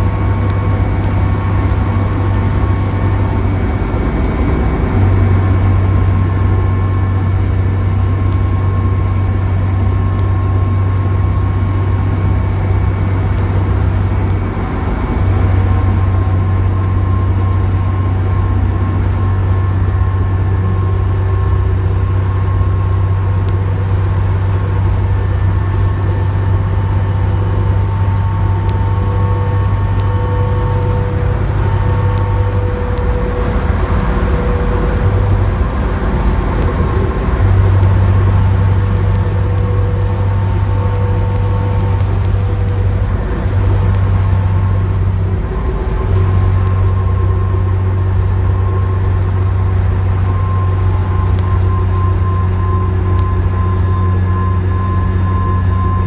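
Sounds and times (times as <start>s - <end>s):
diesel engine droning: 0.0s - 56.0s
high whine: 0.0s - 56.0s
road noise: 0.0s - 56.0s.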